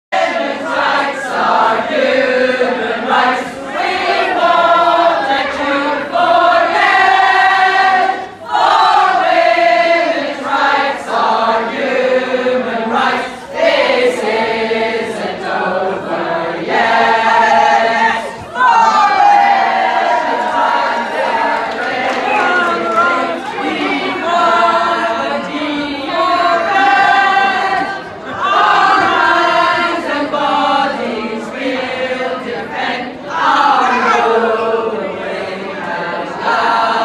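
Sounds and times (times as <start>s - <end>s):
group of voices singing: 0.1s - 37.0s.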